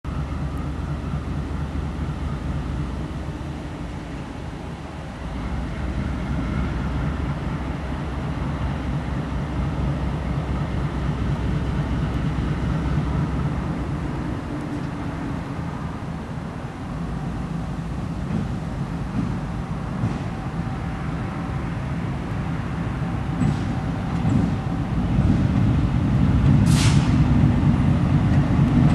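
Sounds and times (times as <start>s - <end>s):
locomotive diesel engine rumbling: 0.0s - 28.9s.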